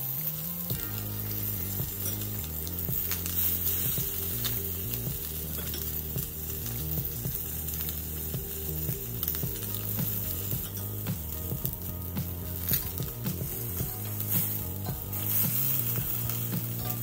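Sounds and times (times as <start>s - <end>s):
fish sizzling in a grill pan: 0.0s - 17.0s.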